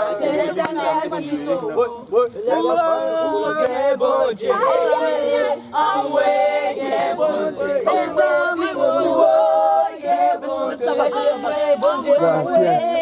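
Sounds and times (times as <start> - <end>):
group singing a hymn unaccompanied: 0.0 - 13.0.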